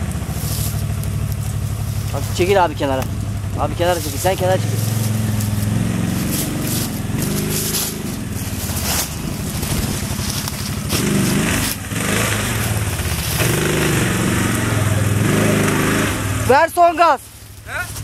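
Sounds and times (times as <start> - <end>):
quad bike engine revving: 0.0 - 18.0.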